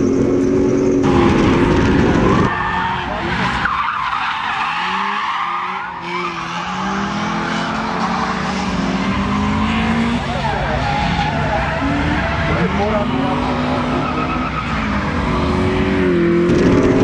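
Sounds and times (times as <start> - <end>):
race car engine revving: 0.0 - 17.0
tyres squealing: 1.1 - 15.5.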